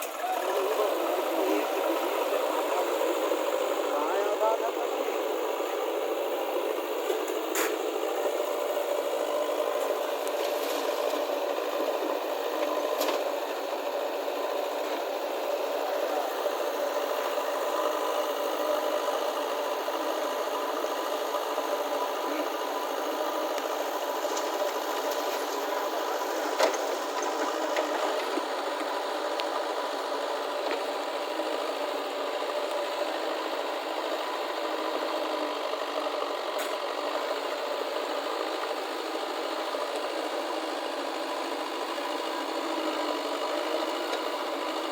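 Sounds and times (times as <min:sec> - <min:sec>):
diesel engine drone: 0:00.0 - 0:44.9.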